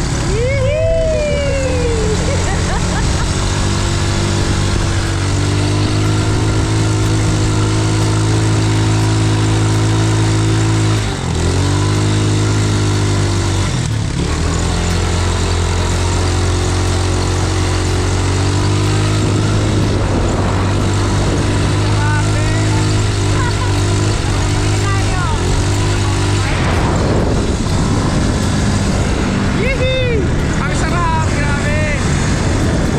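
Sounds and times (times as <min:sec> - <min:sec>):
quad bike engine running: 0:00.0 - 0:32.9.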